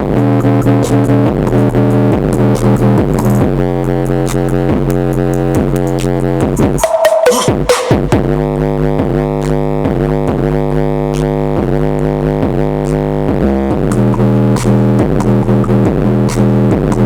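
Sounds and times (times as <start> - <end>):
synthesizer music: 0.0 - 17.0.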